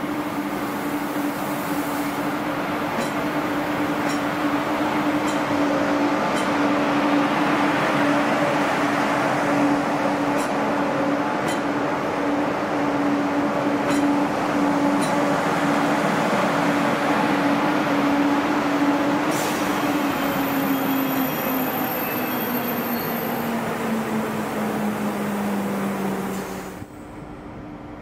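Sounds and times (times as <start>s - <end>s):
train rail rumble: 0.0s - 28.0s.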